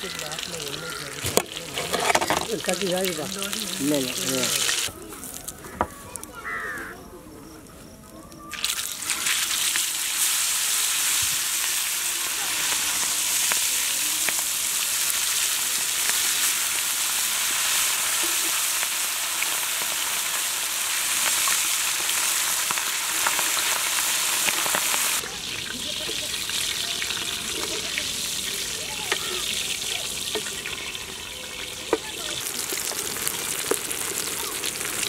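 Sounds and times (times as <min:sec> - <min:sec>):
fish sizzling in hot oil: 0:00.0 - 0:05.4, 0:08.5 - 0:35.0.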